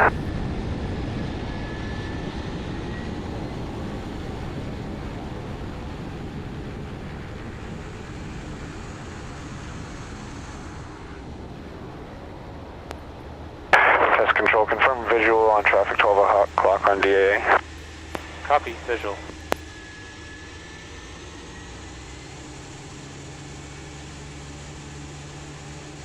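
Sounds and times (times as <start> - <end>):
turboprop engine drone: 0.0 - 26.0.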